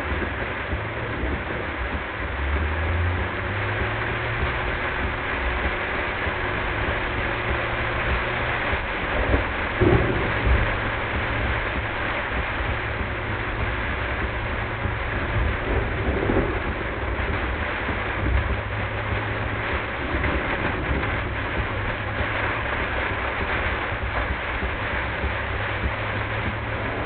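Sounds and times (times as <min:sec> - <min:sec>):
heavy rain pelting a car: 0:00.0 - 0:27.0
road and tyre noise: 0:00.0 - 0:27.0.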